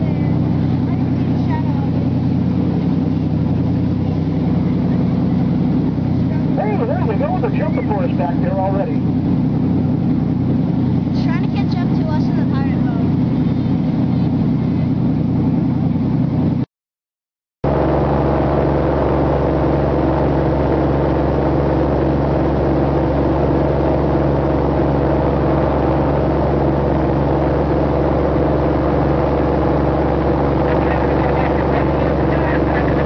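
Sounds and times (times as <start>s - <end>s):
water rushing from wake: 0.0s - 16.5s, 17.7s - 33.0s
speedboat engines running: 0.0s - 16.6s, 17.7s - 33.0s.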